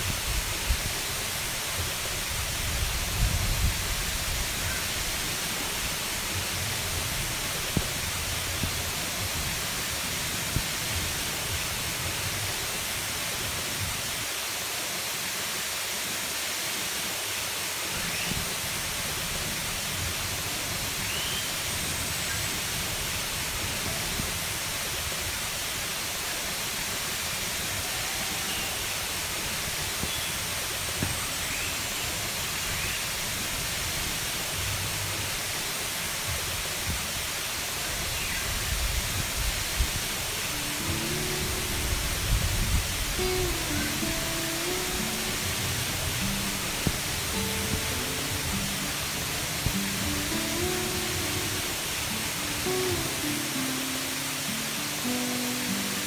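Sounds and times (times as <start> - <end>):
waterfall splashing into pool: 0.0 - 56.0.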